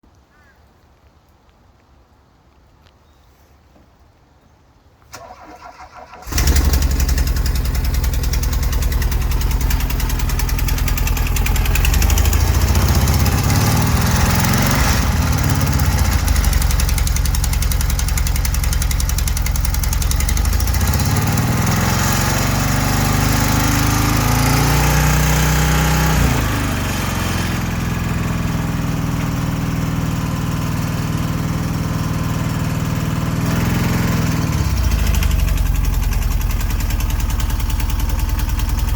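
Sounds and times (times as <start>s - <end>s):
van engine cranking and running: 5.1s - 38.9s.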